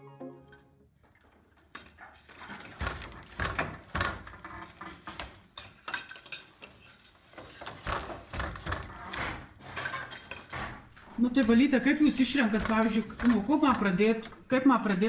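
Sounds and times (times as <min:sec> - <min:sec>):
wooden loom clacks and knocks: 0:01.1 - 0:14.5.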